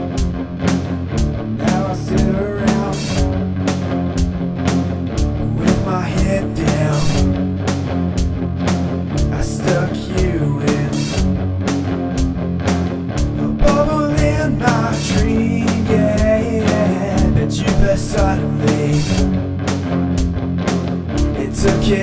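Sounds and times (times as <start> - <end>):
alternative rock song: 0.0 - 22.0
drum hits: 0.0 - 22.0.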